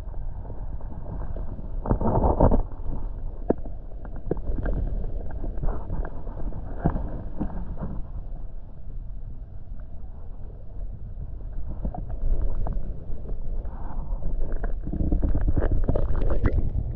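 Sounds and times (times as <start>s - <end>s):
muffled underwater water rumble: 0.0s - 16.9s.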